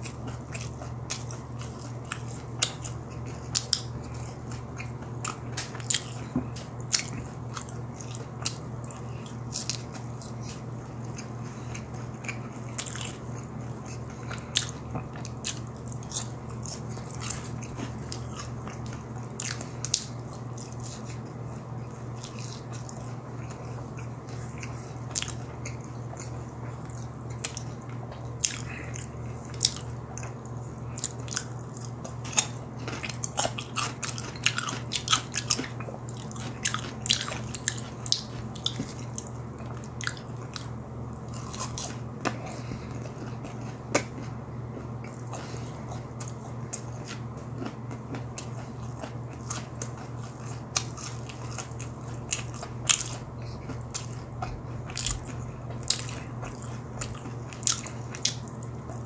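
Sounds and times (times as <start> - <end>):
chewing crispy food: 0.0 - 59.0
constant low hum: 0.0 - 59.0.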